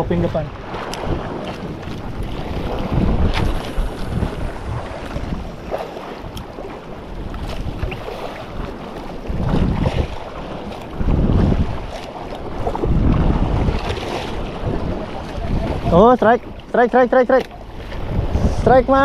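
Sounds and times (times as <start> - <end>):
sea noise: 0.0 - 19.0
wind buffeting microphone: 0.0 - 19.0.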